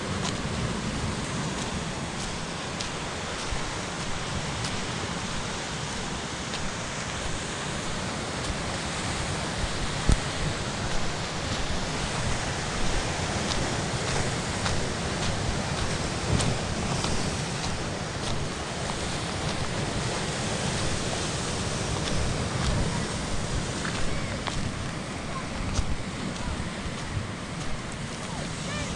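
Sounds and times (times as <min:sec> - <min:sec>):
surf washing over rocks: 0:00.0 - 0:28.9
wind: 0:00.0 - 0:28.9
footsteps crunching on stones: 0:01.5 - 0:08.8, 0:09.6 - 0:28.6.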